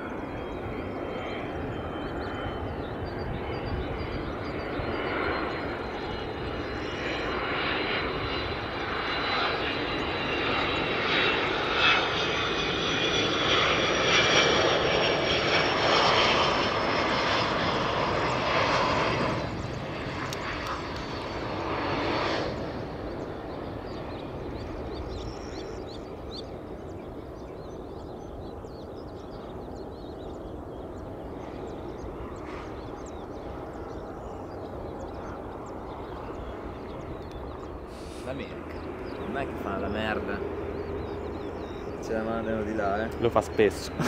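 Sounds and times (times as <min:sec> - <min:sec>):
jet airliner roar and whine: 0:00.0 - 0:44.0.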